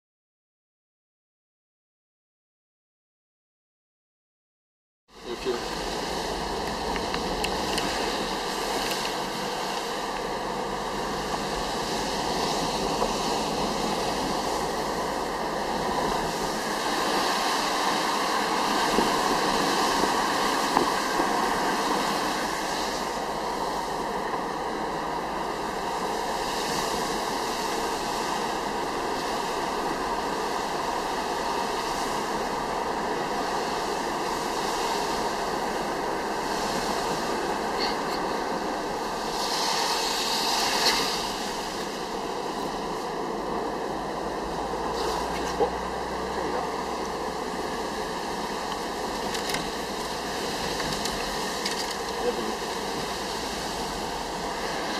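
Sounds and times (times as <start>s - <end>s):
road and wind noise: 5.1s - 54.9s
tyres hissing on wet road: 5.2s - 54.9s.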